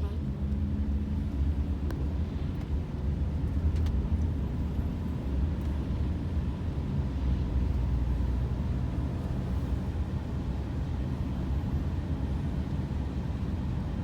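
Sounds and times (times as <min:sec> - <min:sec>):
car driving heard from inside: 0:00.0 - 0:14.0.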